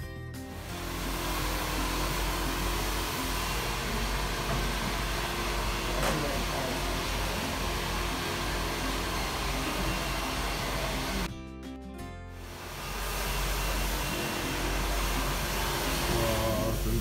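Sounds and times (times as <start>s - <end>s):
hair dryer blowing: 0.5s - 11.3s, 12.4s - 17.0s.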